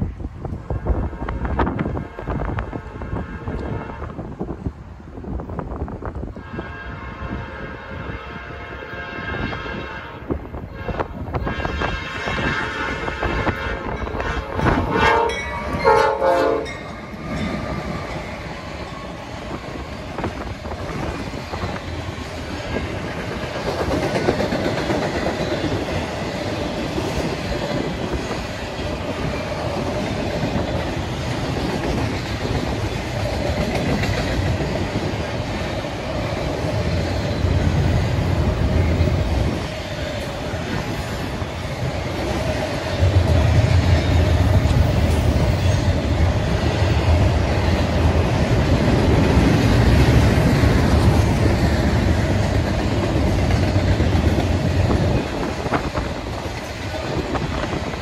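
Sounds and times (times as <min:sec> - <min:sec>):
freight train rumble: 0:00.0 - 0:58.0.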